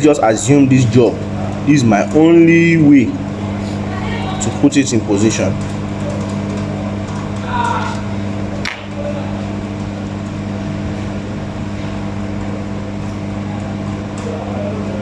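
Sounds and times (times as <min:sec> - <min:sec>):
hot-air station blowing: 0:00.0 - 0:15.0.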